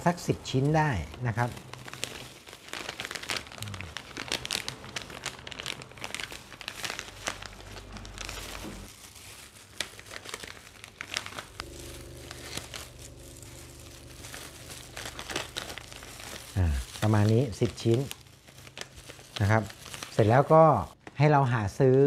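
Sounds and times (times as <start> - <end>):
plastic gloves rustling: 0.0 - 21.2
plastic bag crinkling: 0.4 - 21.2.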